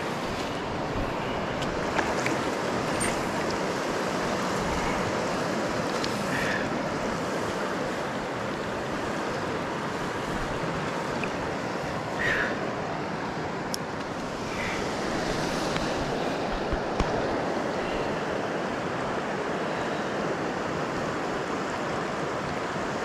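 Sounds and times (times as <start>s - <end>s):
river flowing over stones: 0.0s - 23.0s.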